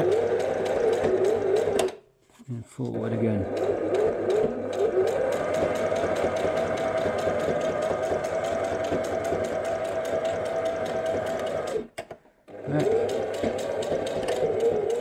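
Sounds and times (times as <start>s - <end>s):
sewing machine stitching: 0.0s - 2.0s, 2.9s - 15.0s.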